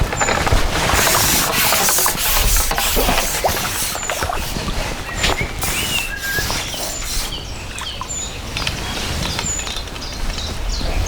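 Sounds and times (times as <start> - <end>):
outdoor background rustle: 0.0 - 11.0
small birds chirping: 0.0 - 11.0.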